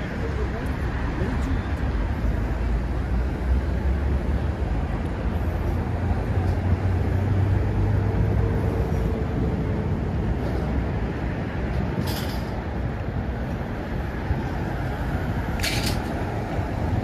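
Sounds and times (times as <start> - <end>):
city road traffic rumble: 0.0 - 17.0.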